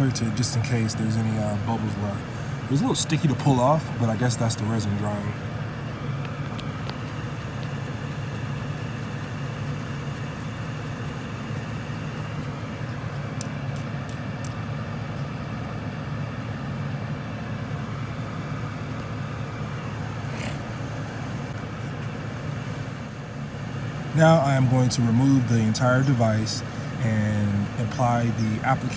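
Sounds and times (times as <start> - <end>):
car engine idling: 0.0 - 28.9
heater fan running: 0.0 - 28.9.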